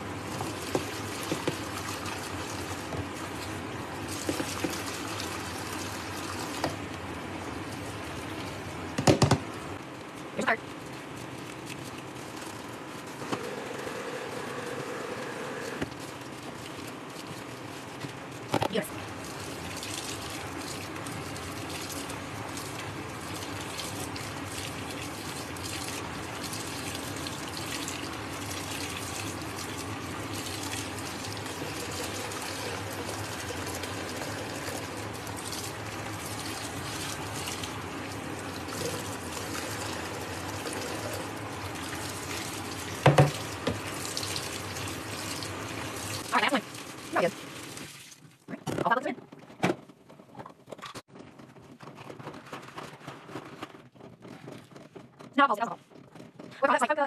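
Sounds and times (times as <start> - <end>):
washing machine churning water: 0.0 - 57.0.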